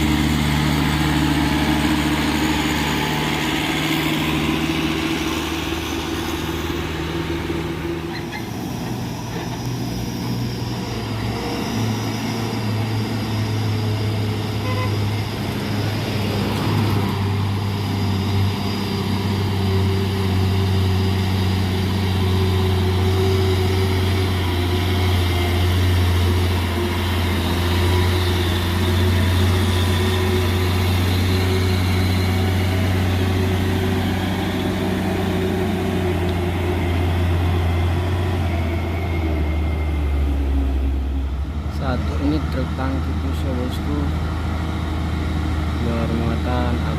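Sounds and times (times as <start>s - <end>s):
truck diesel engine droning: 0.0s - 46.9s.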